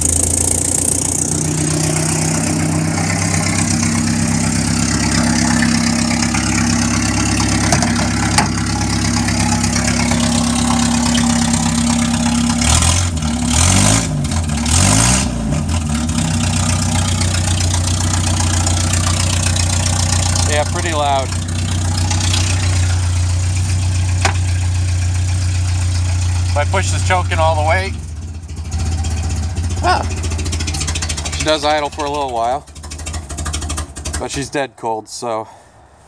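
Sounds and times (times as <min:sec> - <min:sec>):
loud engine idling and revving: 0:00.0 - 0:34.5.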